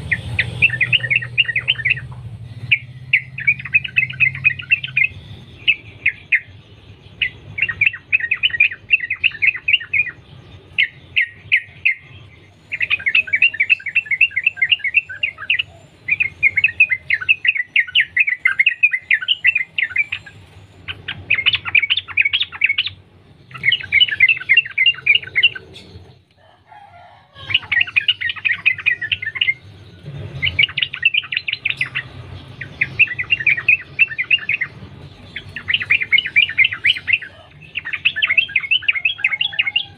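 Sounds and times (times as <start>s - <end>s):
bulbul bubbling chattering song: 0.0s - 26.2s, 27.5s - 29.8s, 30.4s - 39.9s.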